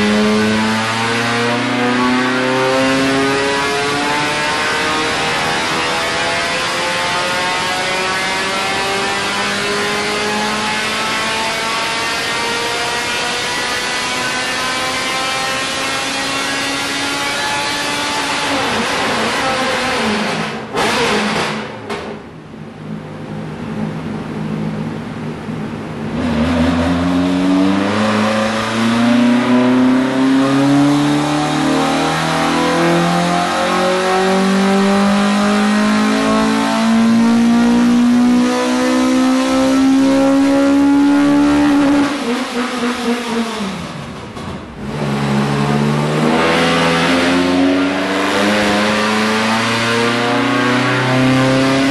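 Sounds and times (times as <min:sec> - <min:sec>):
race engine revving: 0:00.0 - 0:21.8, 0:26.0 - 0:51.9.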